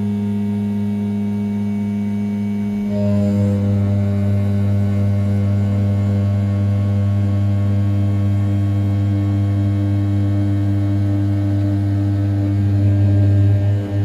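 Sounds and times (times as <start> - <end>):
milling machine spindle humming: 2.4 - 14.0.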